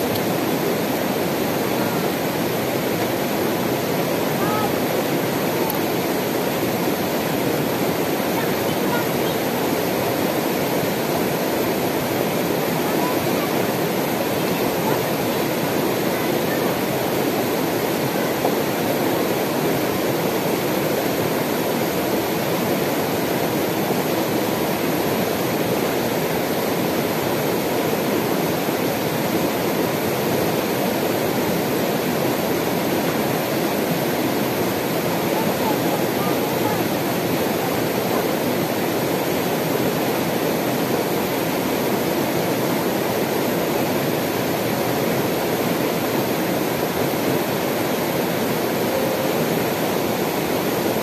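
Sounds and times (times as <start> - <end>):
river rushing over rocks: 0.0 - 51.0.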